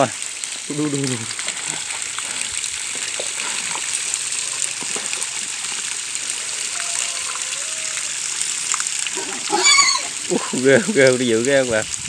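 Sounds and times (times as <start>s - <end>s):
water gushing from a hose: 0.0s - 12.0s.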